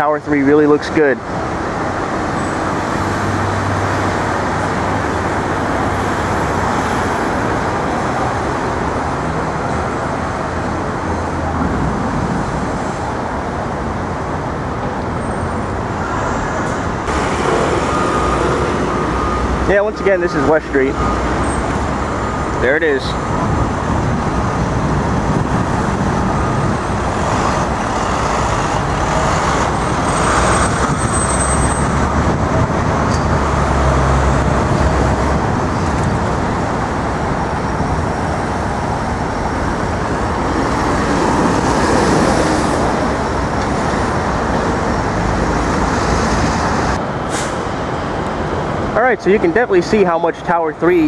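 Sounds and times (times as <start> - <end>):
heavy vehicle passing: 0.0 - 50.8
city street traffic: 0.0 - 51.0.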